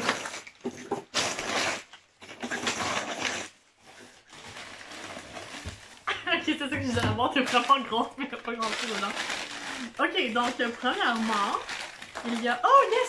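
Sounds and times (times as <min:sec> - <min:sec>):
packing paper rustling and crinkling: 0:00.0 - 0:13.0.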